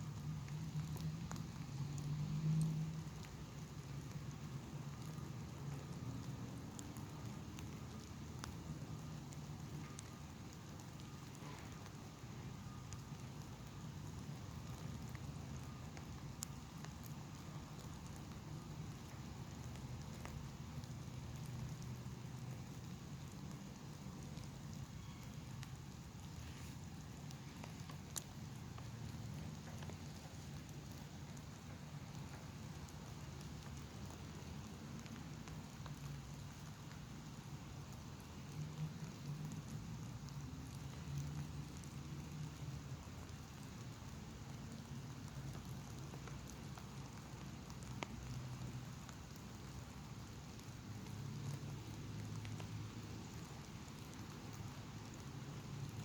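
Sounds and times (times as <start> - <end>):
raindrops ticking: 0.0 - 56.0.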